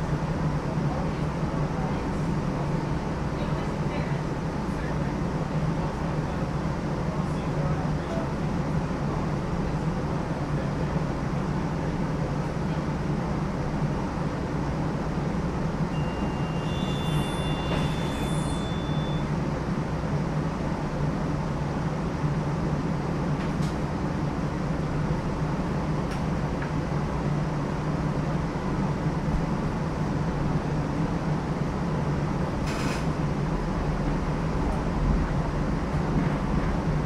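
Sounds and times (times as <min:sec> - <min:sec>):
streetcar humming and rattling: 0:00.0 - 0:37.0.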